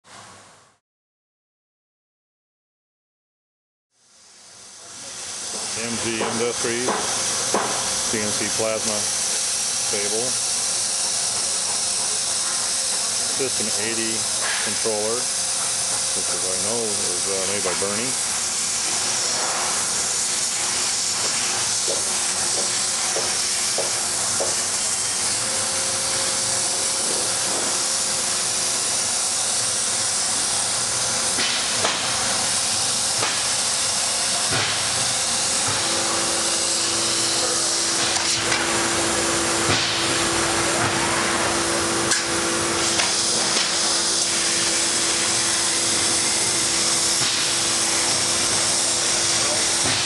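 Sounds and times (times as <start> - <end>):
plasma torch cutting metal hiss: 4.0 - 50.0
steady hum: 4.3 - 50.0.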